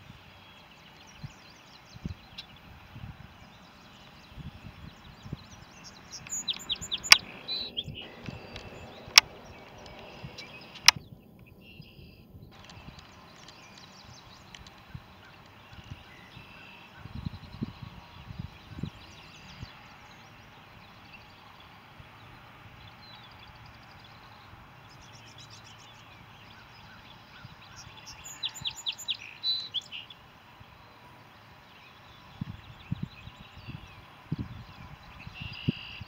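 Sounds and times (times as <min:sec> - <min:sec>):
wild birds chirping: 0:00.0 - 0:36.0.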